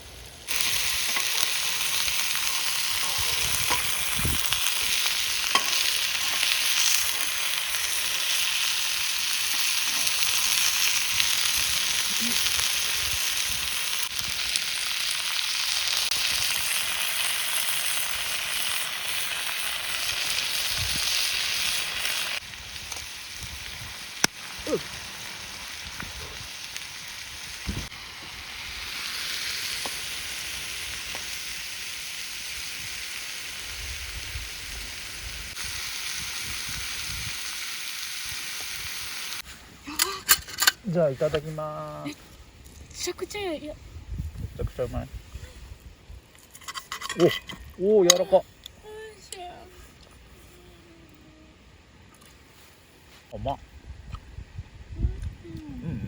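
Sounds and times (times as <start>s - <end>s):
meat sizzling over fire: 0.0s - 56.0s.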